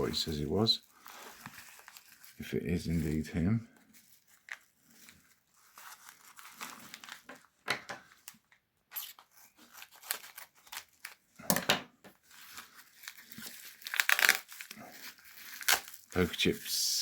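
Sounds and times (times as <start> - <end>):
parcel packaging crinkling and tearing: 0.0 - 11.5, 12.1 - 17.0.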